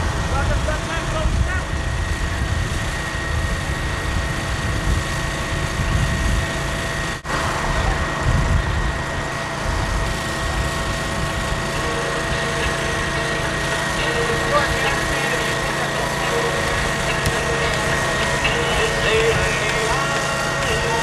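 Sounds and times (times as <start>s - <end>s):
motor drone: 0.0s - 21.0s.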